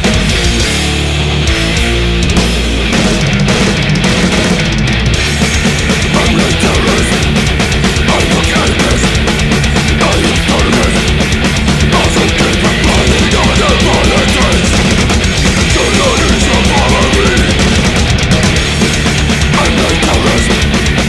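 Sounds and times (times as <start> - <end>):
distorted guitars: 0.0 - 21.0
rapid drumming: 0.0 - 21.0.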